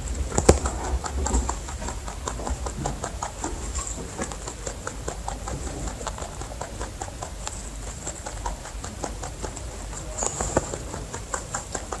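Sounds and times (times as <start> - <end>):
rabbits clicking and tapping: 0.0 - 12.0
steady low rumble: 0.0 - 12.0.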